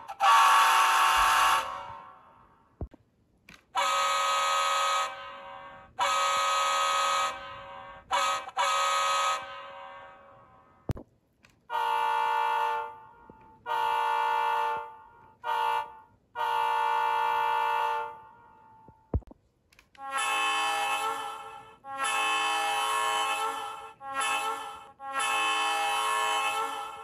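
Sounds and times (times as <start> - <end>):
locomotive air horn from small speaker: 0.0 - 2.3, 3.8 - 10.7, 11.7 - 19.1, 20.0 - 27.0.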